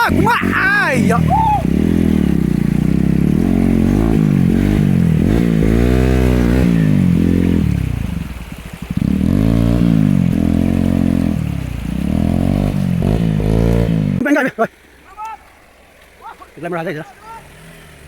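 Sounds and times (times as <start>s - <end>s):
motorcycle engine revving: 0.0s - 14.2s, 17.3s - 18.0s.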